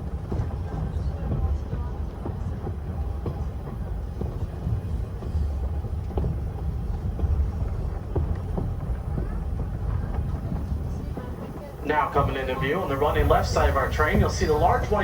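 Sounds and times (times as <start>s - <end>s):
railroad car rumbling: 0.0s - 15.0s
wheels clacking and knocking: 0.0s - 15.0s.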